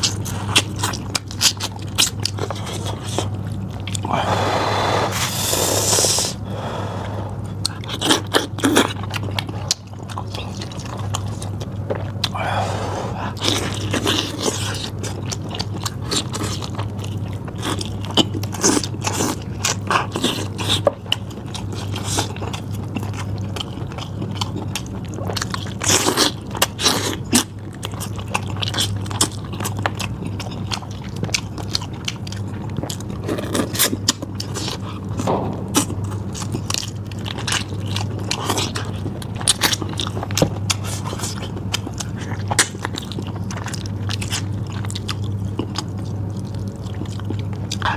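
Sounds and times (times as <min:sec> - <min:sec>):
meat being bitten and chewed: 0:00.0 - 0:06.4, 0:07.4 - 0:47.9
steady low hum: 0:00.0 - 0:47.9.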